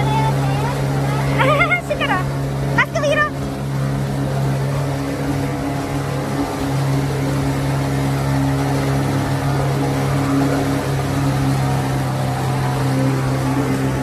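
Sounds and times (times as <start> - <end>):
boat engine droning: 0.0 - 14.0
water noise: 0.0 - 14.0.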